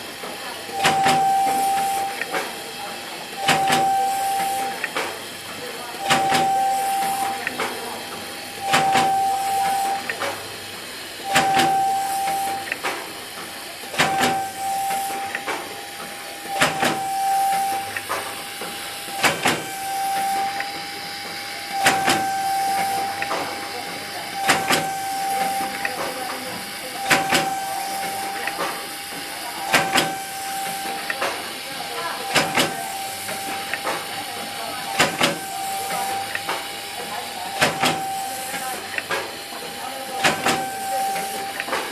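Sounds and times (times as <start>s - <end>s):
continuous machine hiss: 0.0s - 41.9s
high-pitched machine hum: 0.0s - 41.9s
packaging machine clacks: 0.0s - 41.9s.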